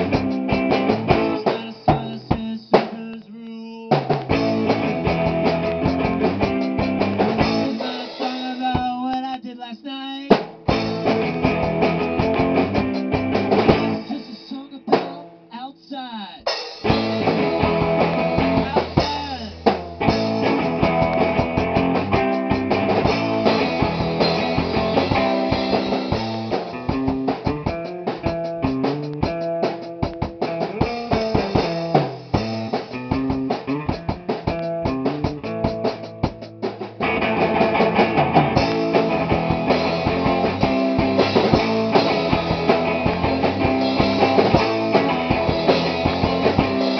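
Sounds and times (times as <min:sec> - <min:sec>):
electric guitar: 0:00.0 - 0:03.3, 0:03.9 - 0:15.5, 0:16.5 - 0:46.9
bass guitar: 0:00.0 - 0:15.5, 0:16.5 - 0:46.9
drum kit: 0:00.0 - 0:46.9.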